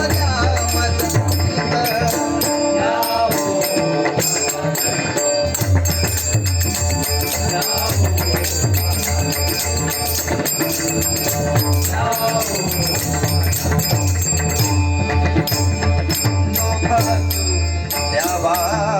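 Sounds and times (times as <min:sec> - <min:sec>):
hand cymbals jingling: 0:00.0 - 0:18.9.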